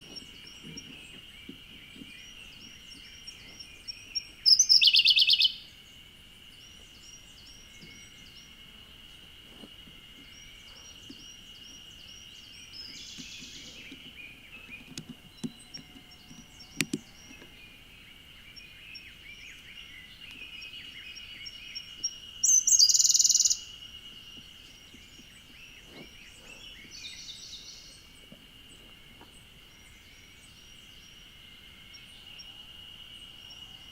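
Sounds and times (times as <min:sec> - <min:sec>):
bird singing: 0:00.0 - 0:33.9.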